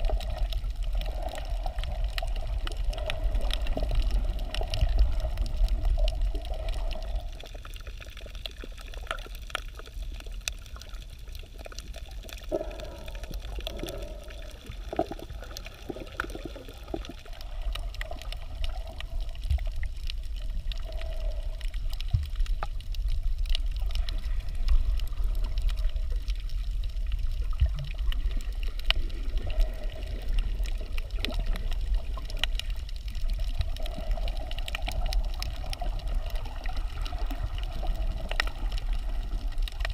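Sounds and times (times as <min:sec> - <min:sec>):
hollow water wash: 0:00.0 - 0:10.4, 0:11.4 - 0:39.9
underwater rumble of moving water: 0:00.0 - 0:39.9.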